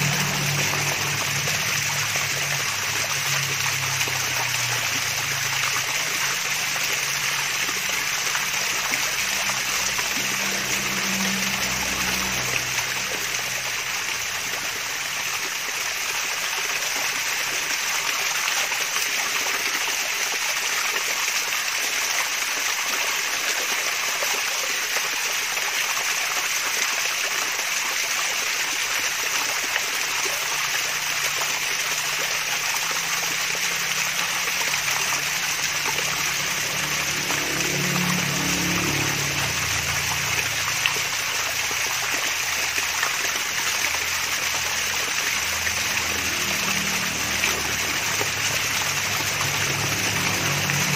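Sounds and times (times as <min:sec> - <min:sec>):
waterfall trickling and splashing: 0:00.0 - 0:50.9.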